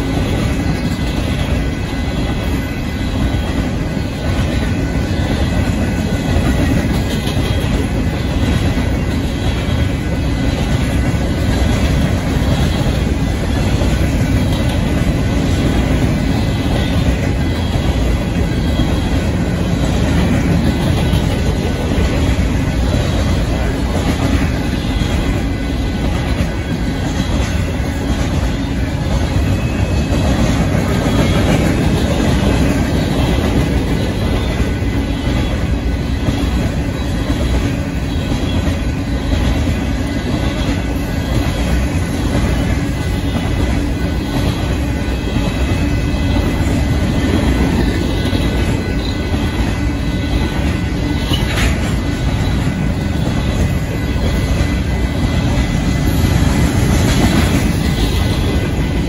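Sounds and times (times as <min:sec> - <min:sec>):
train wheels clacking on rails: 0:00.0 - 0:59.0.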